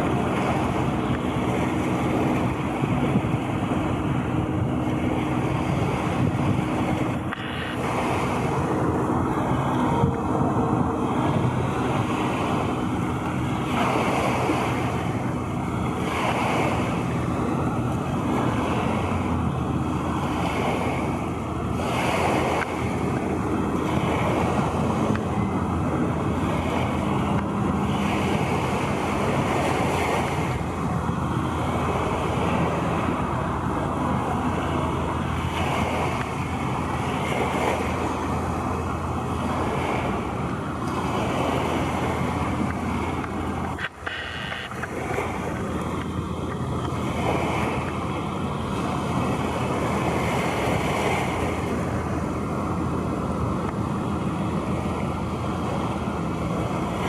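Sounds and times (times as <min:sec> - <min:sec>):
water noise: 0:00.0 - 0:57.0
wind: 0:00.0 - 0:57.0.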